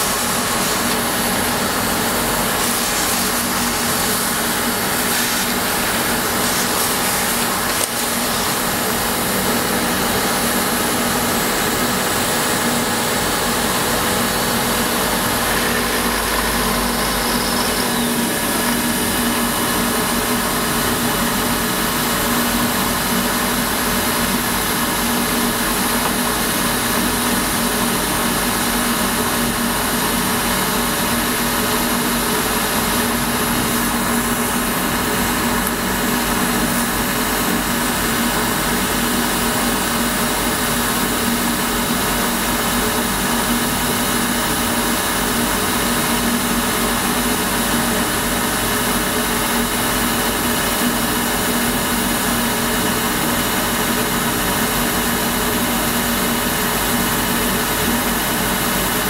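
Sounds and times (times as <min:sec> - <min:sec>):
milling machine cutting metal: 0:00.0 - 0:53.9.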